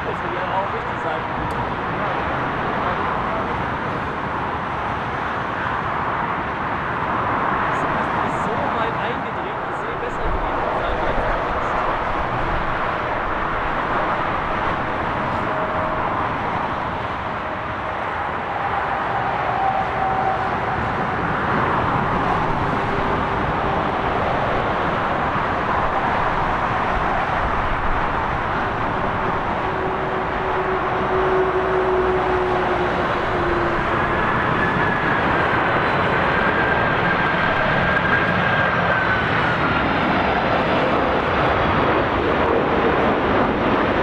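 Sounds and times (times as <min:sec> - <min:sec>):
jet airliner engines: 0:00.0 - 0:44.0.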